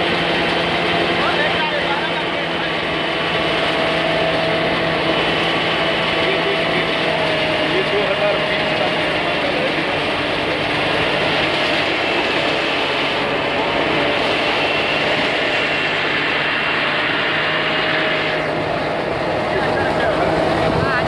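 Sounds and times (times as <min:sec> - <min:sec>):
high whine: 0:00.0 - 0:21.0
thresher machine drone: 0:00.0 - 0:21.0.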